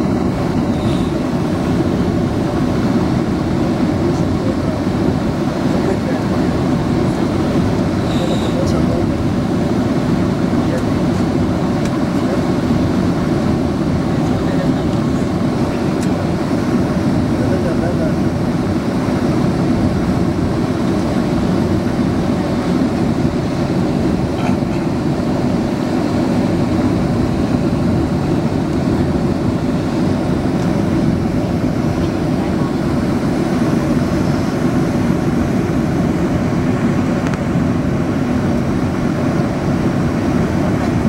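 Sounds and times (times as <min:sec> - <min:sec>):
jet engine roar: 0:00.0 - 0:41.0
rushing air: 0:00.0 - 0:41.0.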